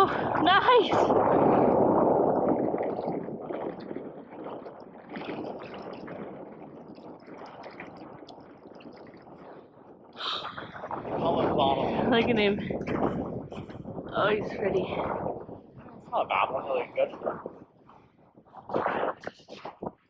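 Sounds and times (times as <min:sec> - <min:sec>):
water splashing and gurgling: 0:00.0 - 0:20.0.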